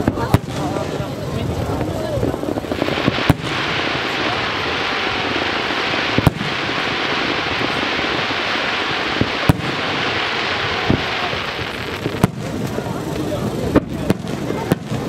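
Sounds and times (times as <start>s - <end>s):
dense firework crackle: 0.0s - 15.0s
firework shells bursting: 0.0s - 15.0s.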